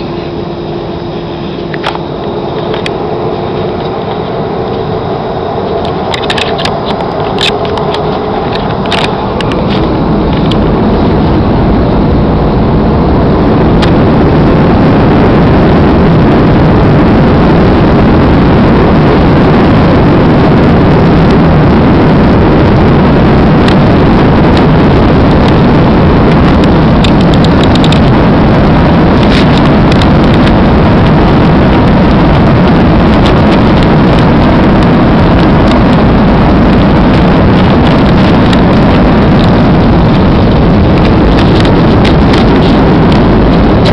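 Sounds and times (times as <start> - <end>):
airliner engines and airflow: 0.0 - 43.9.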